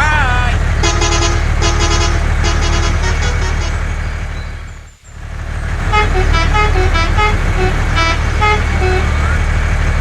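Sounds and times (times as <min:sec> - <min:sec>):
fast beeping tune: 0:00.8 - 0:09.2.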